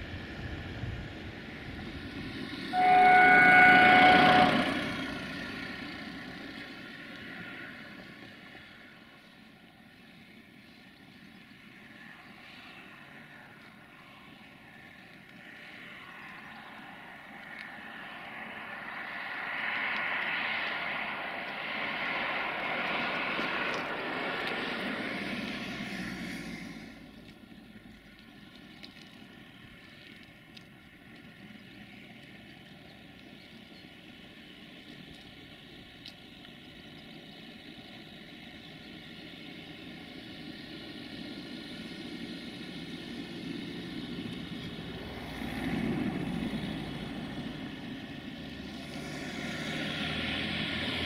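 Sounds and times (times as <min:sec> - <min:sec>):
locomotive diesel engine drone: 0:00.0 - 0:51.0.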